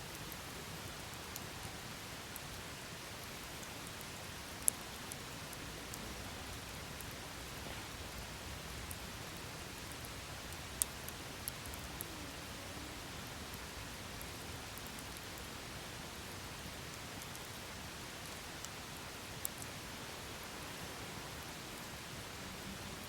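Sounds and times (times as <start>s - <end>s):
campfire hissing and crackling: 0.0s - 23.0s.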